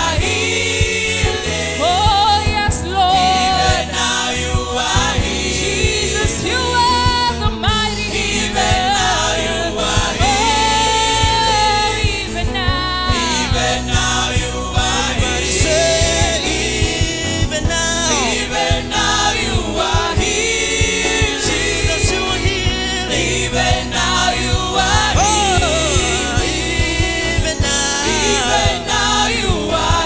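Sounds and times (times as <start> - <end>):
choir singing a worship song: 0.0 - 30.0
lead singers holding wavering notes: 0.0 - 30.0
percussion beat: 0.0 - 30.0
steady bass notes: 0.0 - 30.0.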